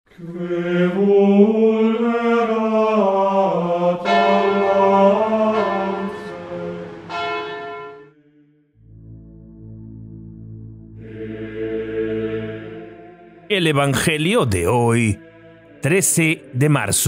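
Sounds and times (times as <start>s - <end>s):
solemn chant-like music: 0.1s - 17.0s.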